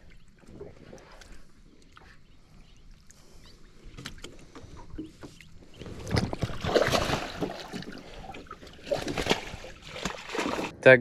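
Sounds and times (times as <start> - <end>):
fish splashing and thrashing: 0.0 - 10.7.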